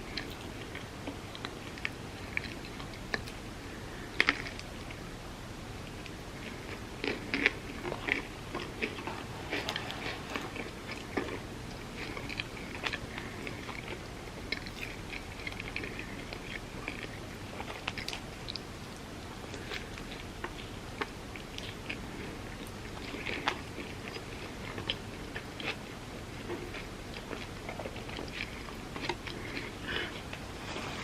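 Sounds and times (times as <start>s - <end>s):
person chewing crunchy food: 0.0s - 5.0s, 5.8s - 31.0s.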